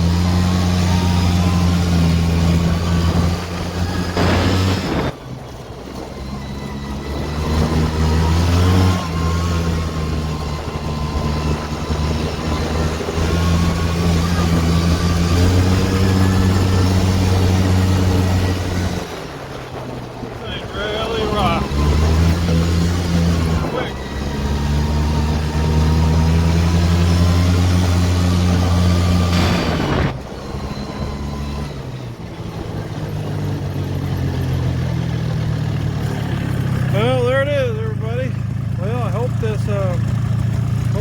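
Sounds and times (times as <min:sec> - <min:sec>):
atv engine under throttle: 0:00.0 - 0:41.0.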